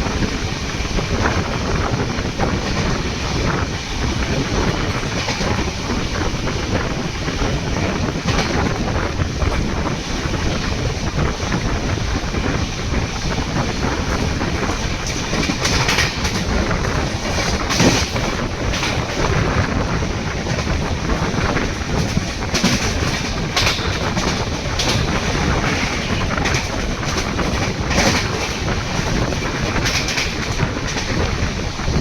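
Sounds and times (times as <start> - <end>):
train coaches rushing past: 0.0 - 32.0
wheels clacking over rail joints: 0.0 - 32.0.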